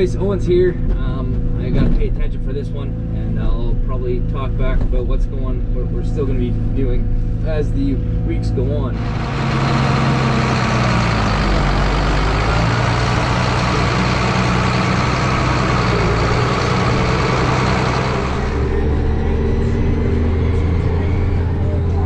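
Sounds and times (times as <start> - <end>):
large vehicle engine running: 0.0 - 22.0.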